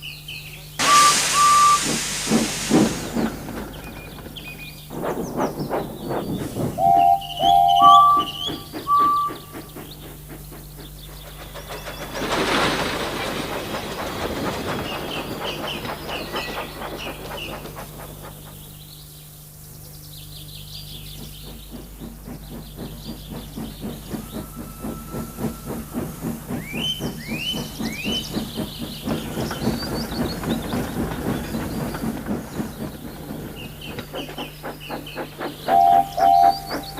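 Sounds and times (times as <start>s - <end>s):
birds chirping: 0.2s - 12.4s, 14.4s - 36.9s
steam locomotive chuffing: 0.6s - 36.9s.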